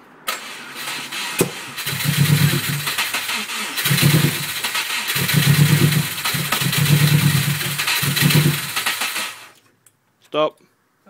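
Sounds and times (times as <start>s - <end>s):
car engine cranking and sputtering: 0.2s - 9.6s.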